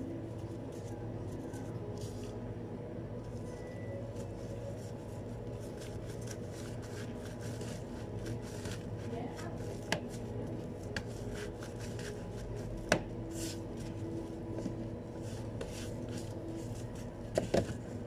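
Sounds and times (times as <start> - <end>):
gloved hands handling food: 0.0 - 18.0.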